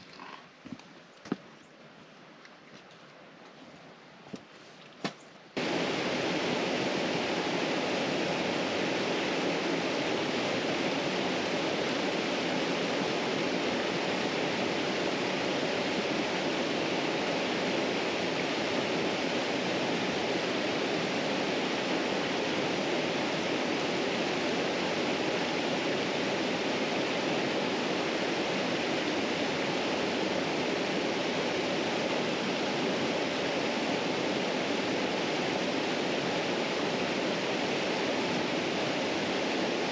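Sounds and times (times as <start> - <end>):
white water rushing: 5.6 - 39.9.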